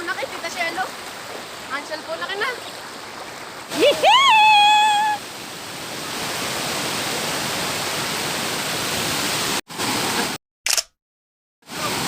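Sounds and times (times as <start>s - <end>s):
flowing river water: 0.0s - 10.4s, 11.7s - 12.0s.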